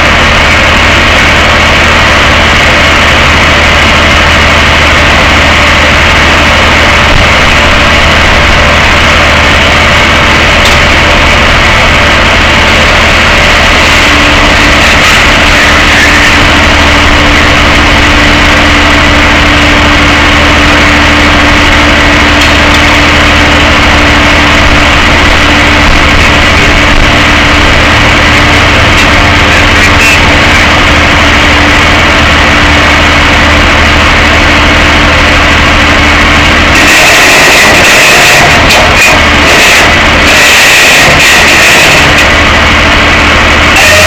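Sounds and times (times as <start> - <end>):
truck engine droning: 0.0 - 44.0.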